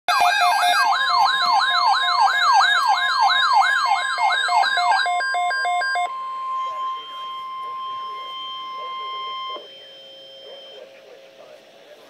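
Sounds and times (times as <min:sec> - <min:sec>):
electronic siren yelping: 0:00.1 - 0:10.9
two-tone siren: 0:00.1 - 0:11.1
steady high tone: 0:00.1 - 0:12.0.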